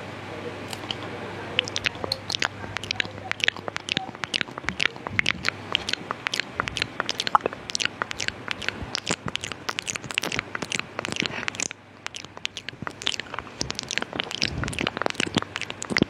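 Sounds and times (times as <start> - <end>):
wet tongue and lip clicks: 0.7 - 16.0.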